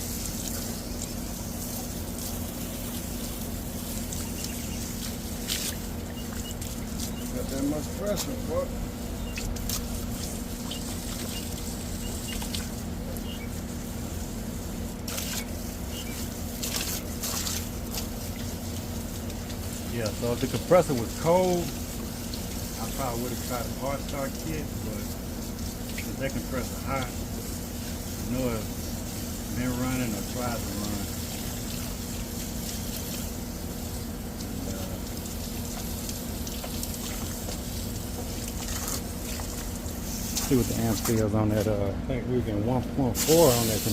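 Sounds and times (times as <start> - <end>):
hose spray pattering on metal fins: 0.0 - 41.8, 43.1 - 43.9
steady low hum: 0.0 - 43.9.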